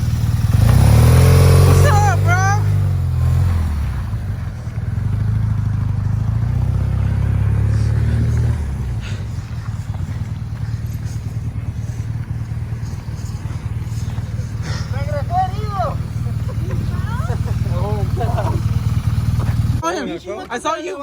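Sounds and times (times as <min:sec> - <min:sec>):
motorcycle engine rumbling: 0:00.0 - 0:20.8.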